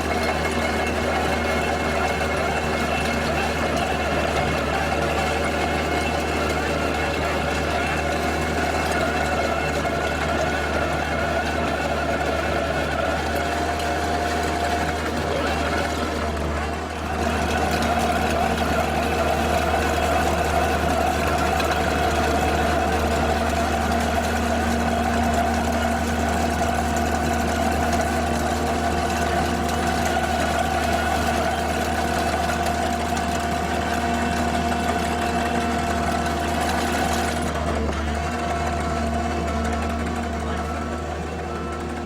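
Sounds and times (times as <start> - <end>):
constant machine whine: 0.0 - 42.0
loader engine and hydraulic noise: 0.0 - 42.0.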